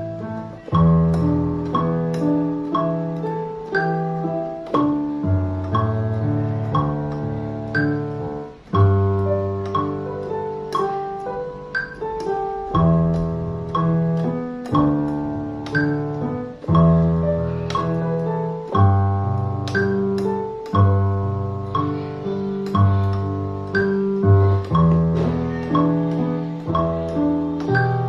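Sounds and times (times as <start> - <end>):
piano chords and melody: 0.0 - 28.0.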